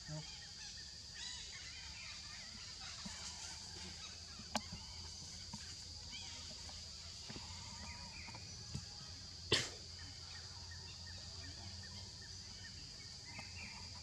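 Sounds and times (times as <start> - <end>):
short scattered calls: 0.0 - 14.0.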